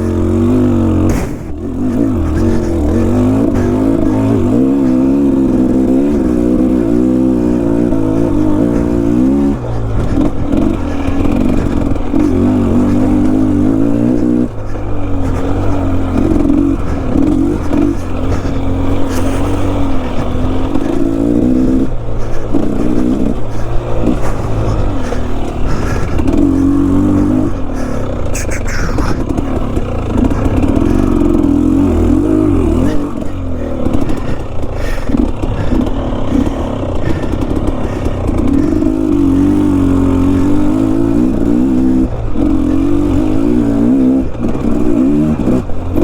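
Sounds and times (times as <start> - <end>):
scraping clatter: 0.0 - 6.7, 7.4 - 41.2
dirt bike engine revving: 0.0 - 46.0.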